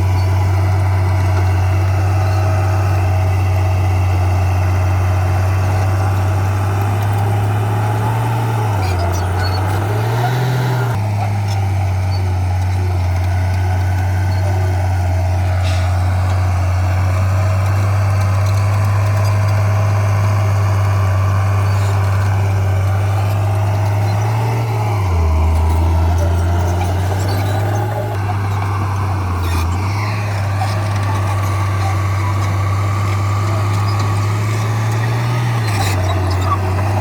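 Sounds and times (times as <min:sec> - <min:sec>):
diesel engine humming: 0:00.0 - 0:37.0.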